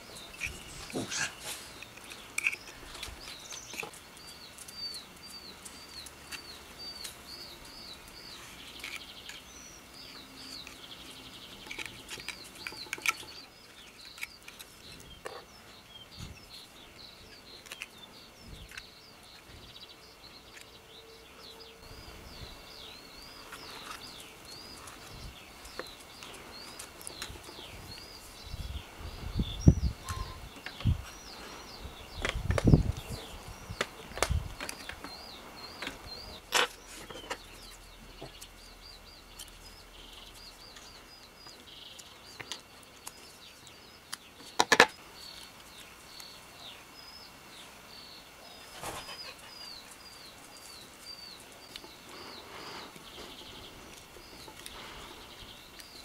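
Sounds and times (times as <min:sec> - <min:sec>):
small bird chirping: 0:00.0 - 0:56.0.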